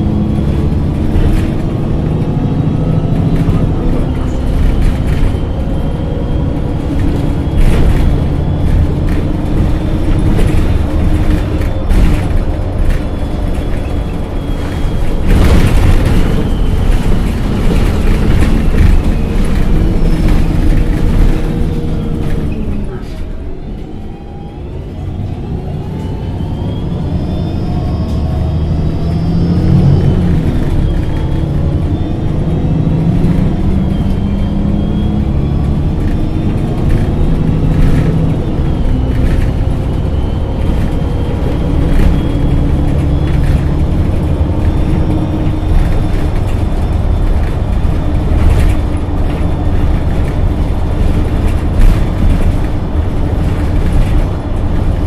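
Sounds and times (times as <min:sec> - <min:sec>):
bus engine rumble and whine: 0:00.0 - 0:55.0.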